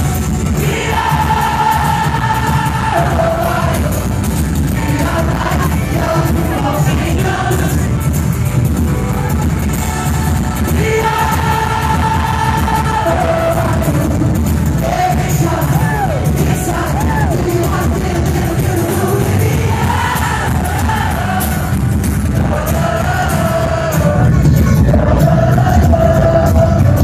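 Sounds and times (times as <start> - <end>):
crowd noise: 0.0 - 27.0
live rock band playing: 0.0 - 27.0
person singing lead vocal: 0.4 - 8.2, 10.5 - 27.0.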